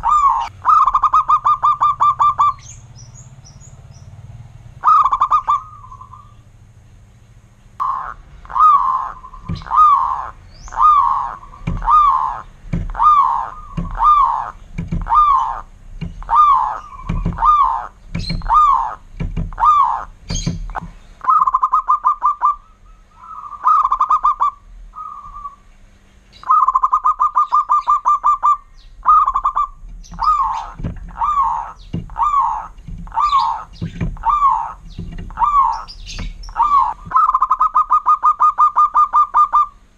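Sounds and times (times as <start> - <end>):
dove cooing: 0.0 - 2.8, 4.8 - 6.4, 7.8 - 25.7, 26.4 - 39.9
rolling bird trill: 0.0 - 4.2, 4.8 - 6.6, 7.7 - 39.9.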